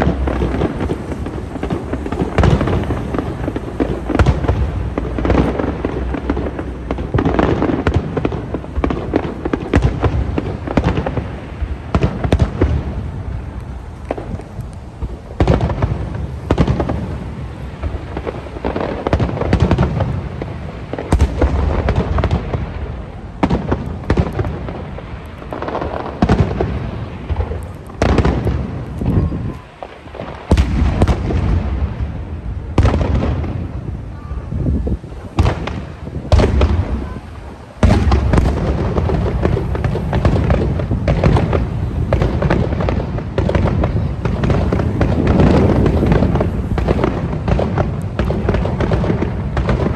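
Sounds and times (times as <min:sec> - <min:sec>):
fireworks booming and cracking: 0:00.0 - 0:49.9.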